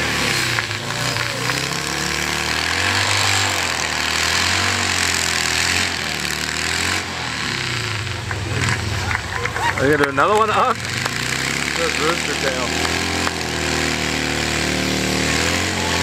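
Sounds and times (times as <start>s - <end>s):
engine with wavering pitch: 0.0s - 16.0s.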